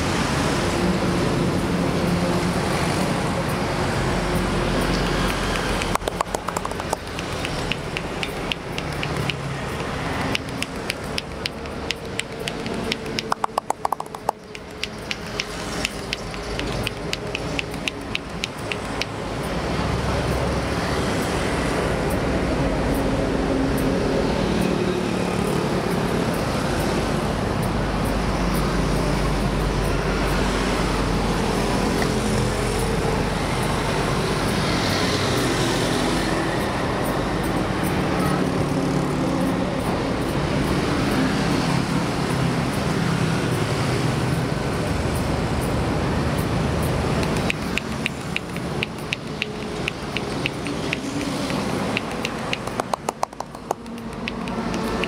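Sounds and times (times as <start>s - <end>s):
highway traffic noise: 0.0s - 55.0s.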